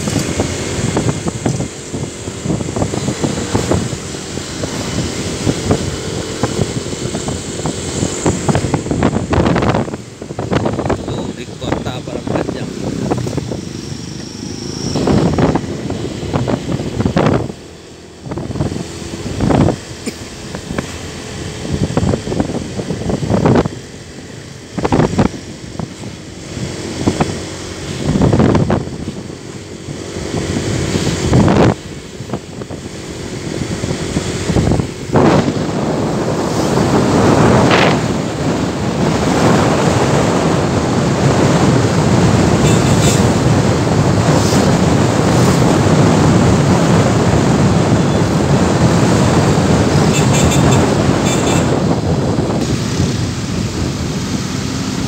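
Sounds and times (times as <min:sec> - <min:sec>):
motorcycle engine drone: 0:00.0 - 0:55.0
road noise: 0:00.0 - 0:55.0
wind buffeting microphone: 0:00.0 - 0:55.0.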